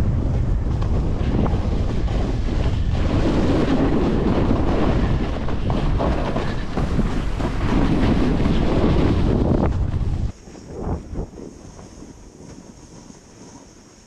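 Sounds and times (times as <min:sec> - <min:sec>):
snowboard scraping over snow: 0:00.0 - 0:14.0
wind buffeting microphone: 0:00.0 - 0:14.0.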